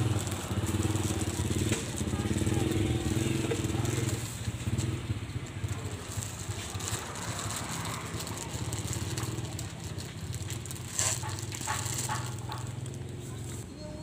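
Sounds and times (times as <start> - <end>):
plastic pouch crinkling: 0.0 - 13.1.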